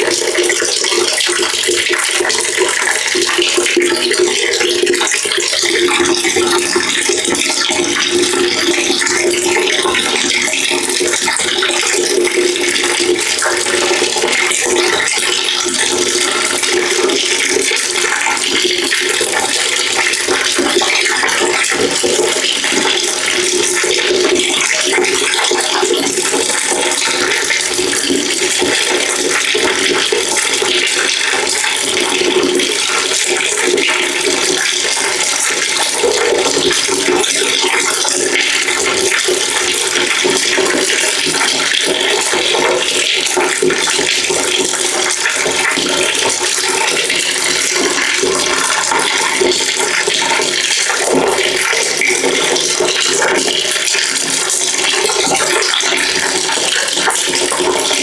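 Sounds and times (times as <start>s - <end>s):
water pouring into a bucket: 0.0s - 58.0s.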